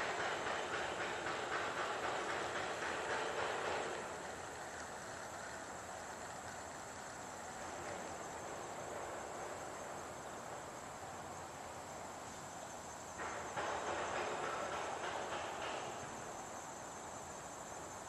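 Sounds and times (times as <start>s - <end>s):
insects droning: 0.0s - 18.0s
outdoor background hiss: 0.0s - 18.0s.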